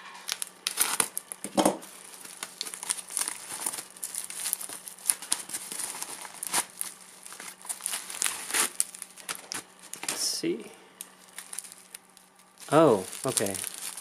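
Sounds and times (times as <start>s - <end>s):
plastic crinkling and rustling: 0.1s - 10.2s, 11.0s - 14.0s.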